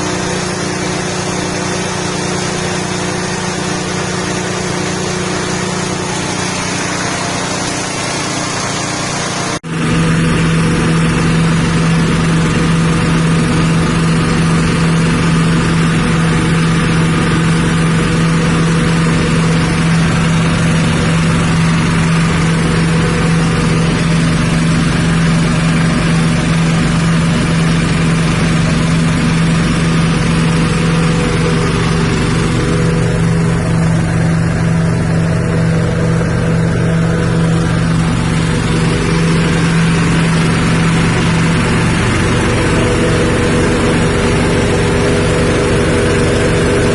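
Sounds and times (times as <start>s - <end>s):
grinding machine engine running: 0.0s - 46.9s.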